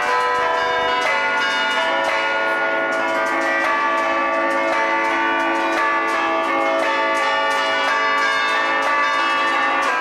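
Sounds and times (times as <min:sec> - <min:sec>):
church bells playing a tune: 0:00.0 - 0:10.0.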